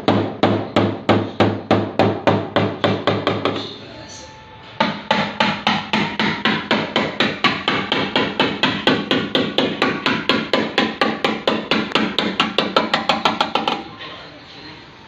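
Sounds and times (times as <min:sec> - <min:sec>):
hammer tapping on steel panel: 0:00.0 - 0:03.6, 0:04.8 - 0:13.9.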